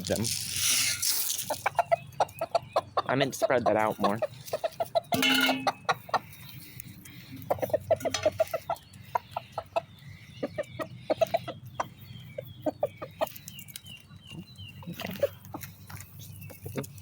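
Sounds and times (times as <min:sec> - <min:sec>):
chickens clucking: 0:00.7 - 0:17.0.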